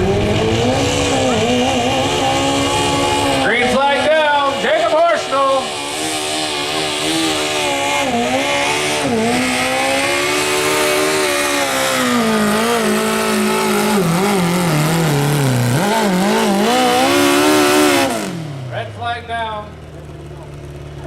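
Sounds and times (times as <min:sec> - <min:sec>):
lawn tractor engine under load: 0:00.0 - 0:21.0.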